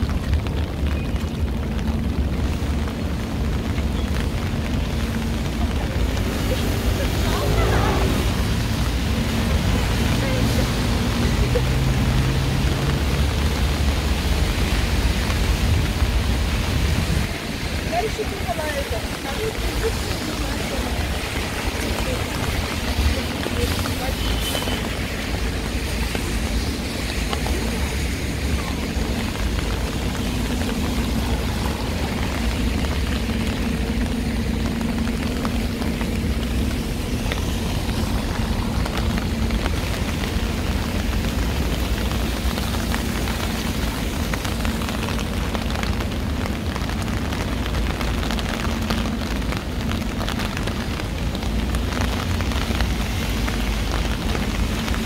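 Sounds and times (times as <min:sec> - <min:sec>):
low hum and rumble: 0:00.0 - 0:18.0, 0:25.6 - 0:55.0
heavy rain on street: 0:00.0 - 0:55.0.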